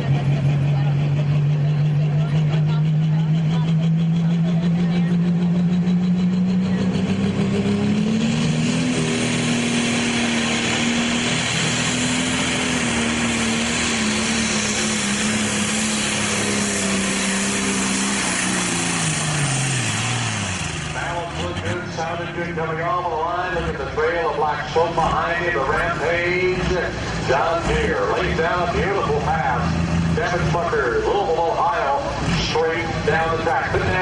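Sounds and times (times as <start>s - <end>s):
diesel tractor engine under load: 0.0s - 34.0s.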